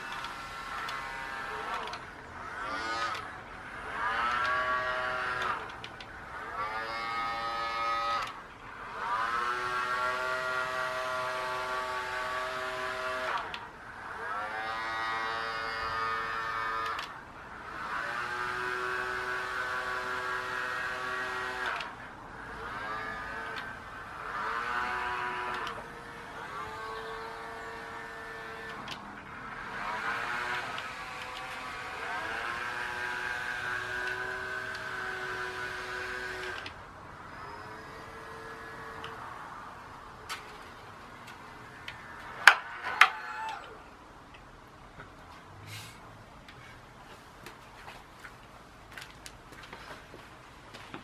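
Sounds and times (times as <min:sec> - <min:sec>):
small electric motors whining: 0:00.0 - 0:44.5.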